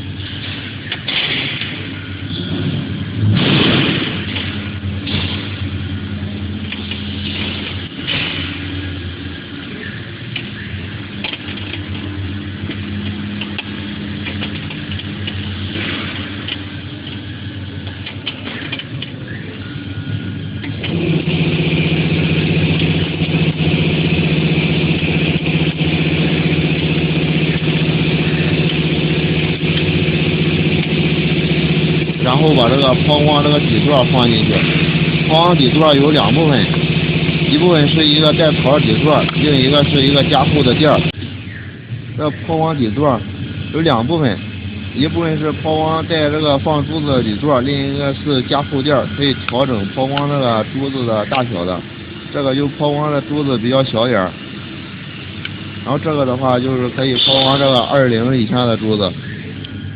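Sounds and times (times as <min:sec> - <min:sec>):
loud machine hum: 0:00.0 - 0:59.9
workshop machinery humming: 0:00.0 - 0:59.9.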